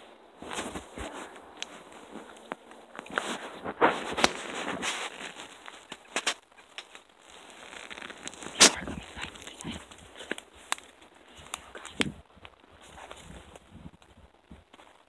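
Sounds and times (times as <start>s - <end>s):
footsteps through dry grass: 0.0s - 15.0s
twigs snapping: 0.4s - 15.0s.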